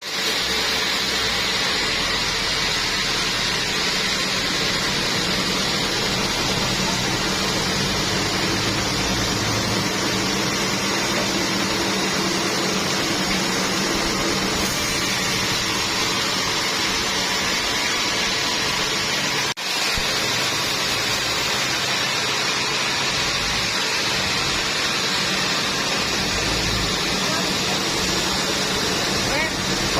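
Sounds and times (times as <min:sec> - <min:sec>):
machine hissing: 0:00.0 - 0:29.9.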